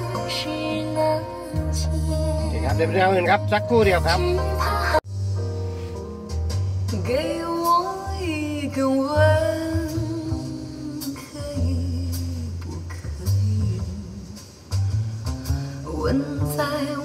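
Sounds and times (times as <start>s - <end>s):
song through car speakers: 0.0s - 17.0s.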